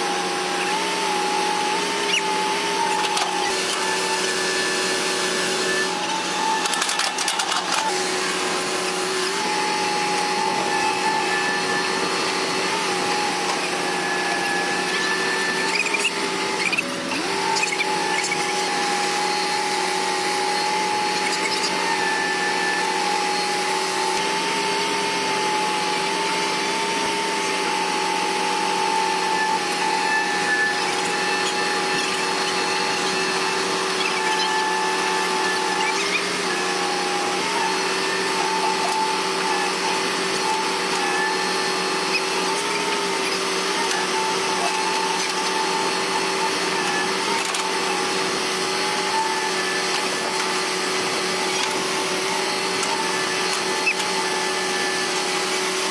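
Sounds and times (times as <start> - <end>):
bulldozer diesel engines running: 0.0 - 55.8.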